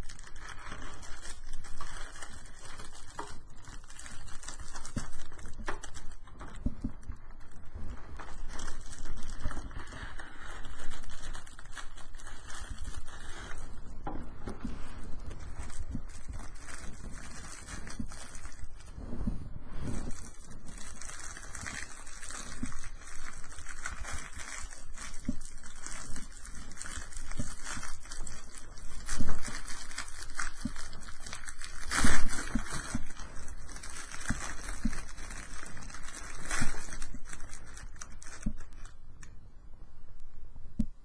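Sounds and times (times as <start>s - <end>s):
plastic wrapping crinkling: 0.0s - 39.4s.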